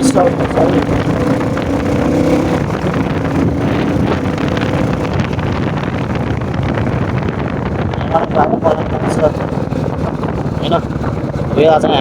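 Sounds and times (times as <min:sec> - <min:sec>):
motorcycle engine rumble: 0:00.0 - 0:12.0
wind buffeting microphone: 0:00.0 - 0:12.0.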